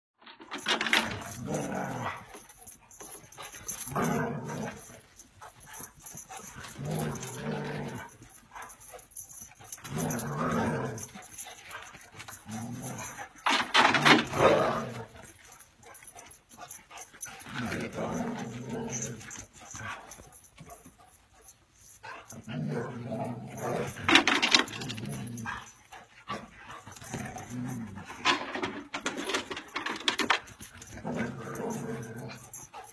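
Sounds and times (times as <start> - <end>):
dog growling: 0.9 - 15.6, 16.6 - 20.4, 22.1 - 28.8, 30.8 - 32.9.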